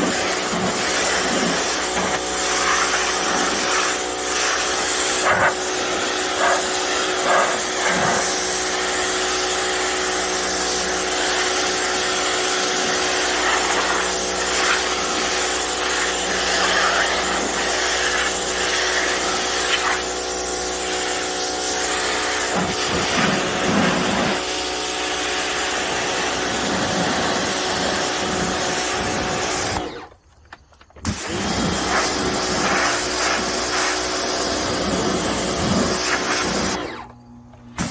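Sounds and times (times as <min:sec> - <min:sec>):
pressure washer spraying hiss: 0:00.0 - 0:29.8, 0:31.6 - 0:36.8.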